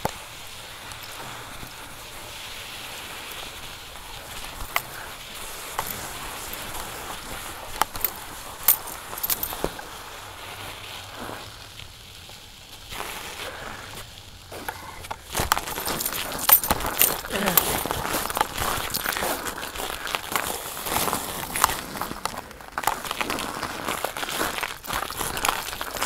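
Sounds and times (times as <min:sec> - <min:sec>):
bicycle tyres crunching on snow: 0:00.0 - 0:26.0.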